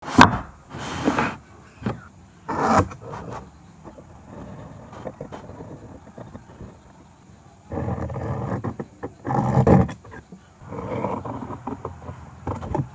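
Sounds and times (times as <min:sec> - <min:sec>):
tool scraping wood: 0:00.0 - 0:06.9, 0:07.7 - 0:12.9.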